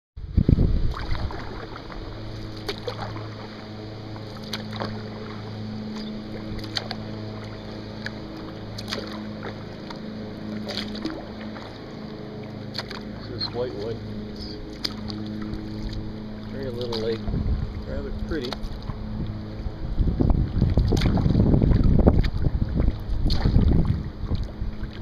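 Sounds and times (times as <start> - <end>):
low motor hum: 0.2 - 25.0
paddle splashing water: 0.6 - 25.0.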